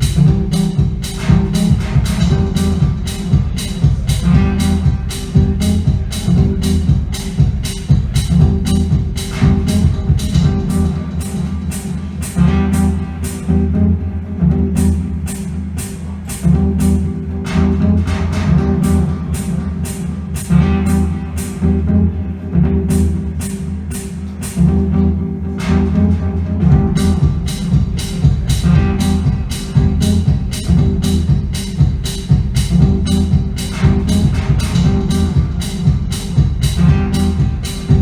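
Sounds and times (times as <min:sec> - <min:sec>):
low bass drone: 0:00.0 - 0:38.0.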